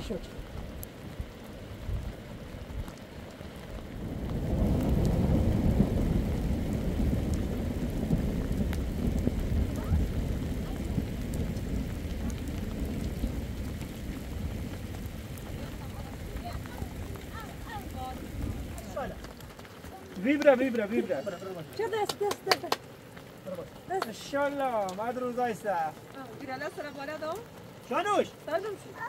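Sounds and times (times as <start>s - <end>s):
steady rain falling: 0.0s - 29.0s
thunder rumbling: 0.0s - 29.0s.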